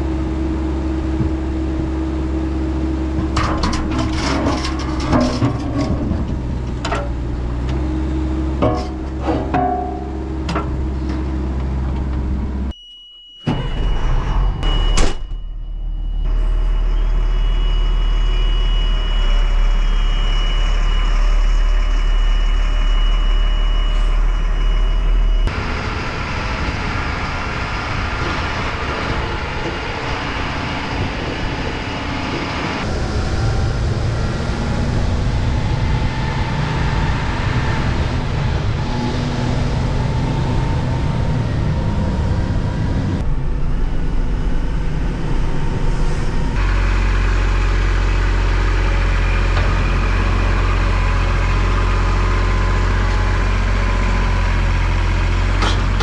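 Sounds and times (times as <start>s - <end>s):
truck diesel engine driving: 0.0s - 12.7s, 13.5s - 56.0s
engine whine: 0.0s - 12.8s, 13.4s - 56.0s.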